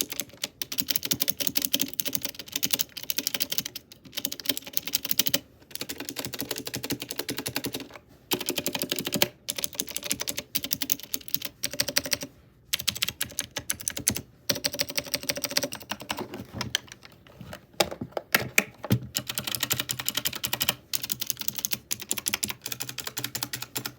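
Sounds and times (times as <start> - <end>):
clicky keyboard typing: 0.0 - 17.1, 17.8 - 23.9.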